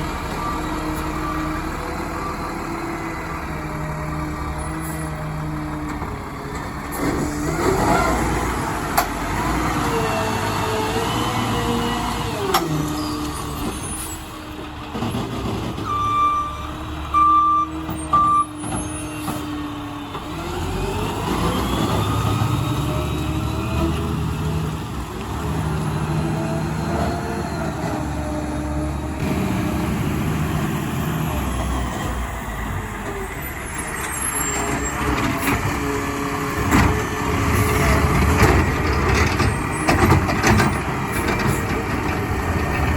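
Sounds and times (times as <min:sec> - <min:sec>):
truck engine and hydraulics: 0:00.0 - 0:42.9.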